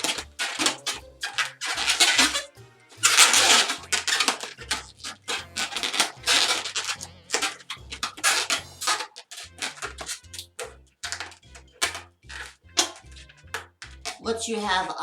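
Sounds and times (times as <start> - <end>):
balloon rubber rubbing and scraping: 0.0 - 14.9
background music with bass line: 0.0 - 15.0.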